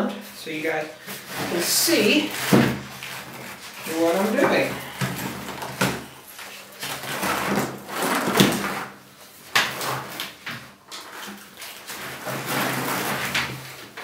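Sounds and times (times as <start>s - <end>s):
computer case scraping: 0.6s - 9.0s, 11.1s - 14.0s.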